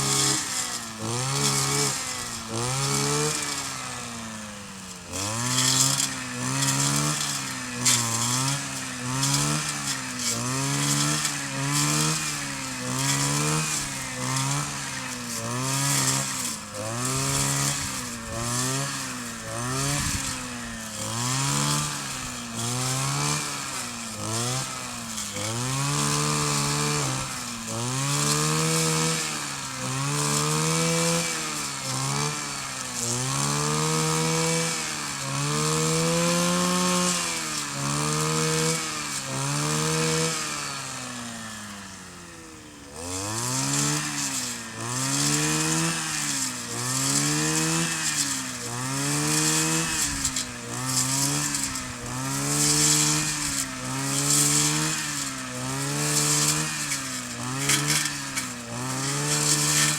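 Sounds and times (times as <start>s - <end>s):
brush cutter engine revving: 0.0s - 59.9s.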